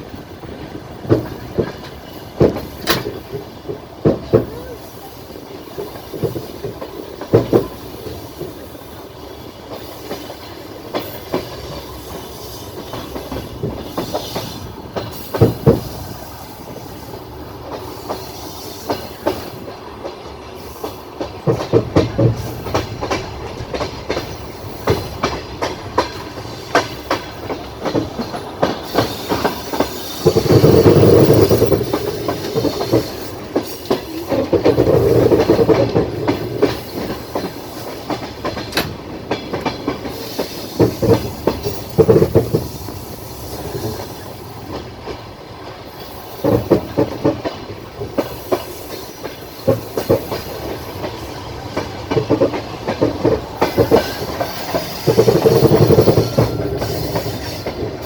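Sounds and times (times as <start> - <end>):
train rushing: 0.0 - 58.0
train wheels clacking over rail joints: 0.0 - 58.0.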